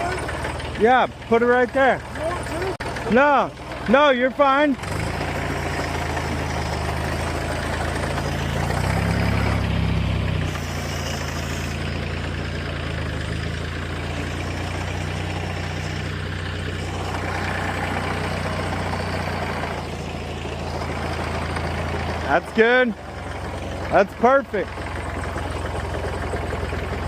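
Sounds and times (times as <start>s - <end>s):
tractor engine idling: 0.0s - 27.0s.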